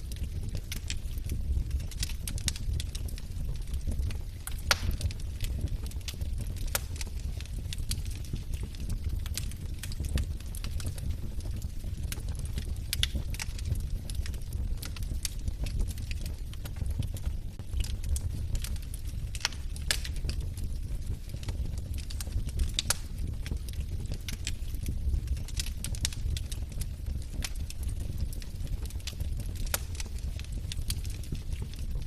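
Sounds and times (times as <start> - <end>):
log fire crackling: 0.0 - 32.0.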